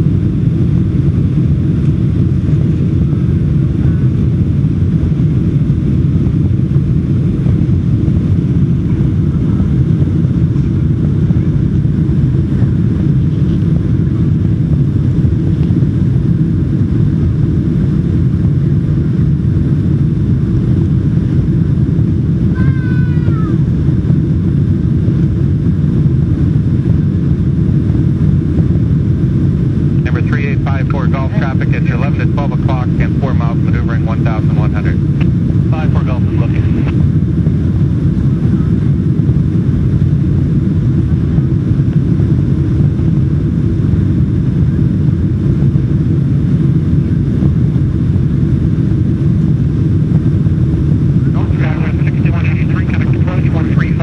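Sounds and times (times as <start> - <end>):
airplane engine rumble: 0.0 - 54.0.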